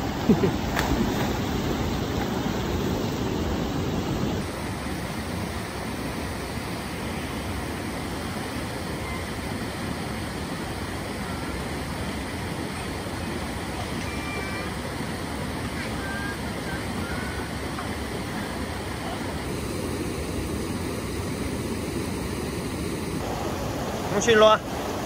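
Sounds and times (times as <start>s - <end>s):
stream rushing over rocks: 0.0s - 19.6s, 23.0s - 25.0s.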